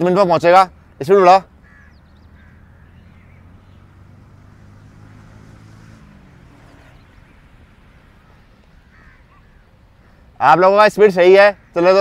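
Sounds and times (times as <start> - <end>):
vehicle engine humming: 0.0 - 11.8.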